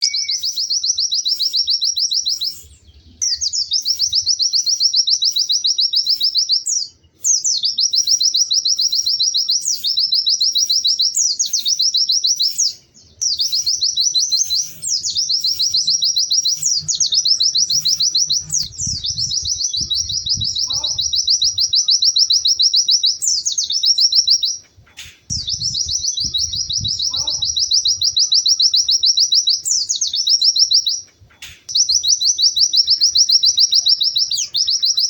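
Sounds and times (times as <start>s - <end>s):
bird singing rapid high chattering: 0.0s - 35.0s.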